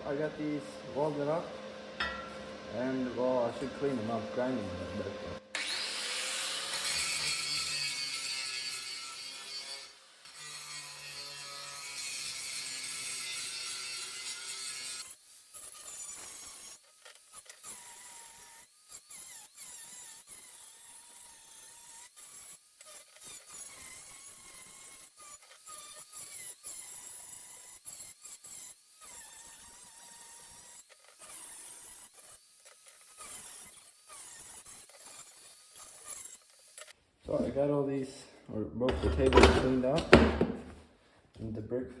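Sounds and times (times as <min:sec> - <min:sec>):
angle grinder grinding steel: 0:00.1 - 0:37.0, 0:38.9 - 0:40.3.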